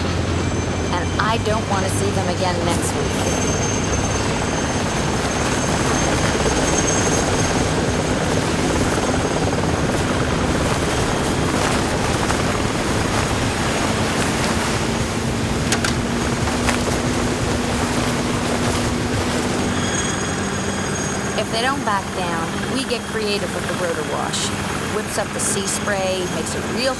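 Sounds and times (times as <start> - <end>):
helicopter rotor and turbine: 0.0 - 26.9.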